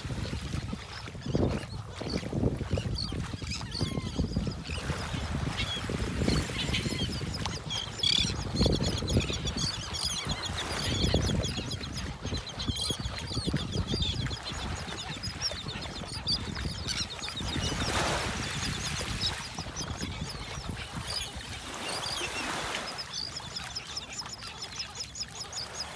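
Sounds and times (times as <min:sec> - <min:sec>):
gulls and terns calling: 0:00.3 - 0:25.9.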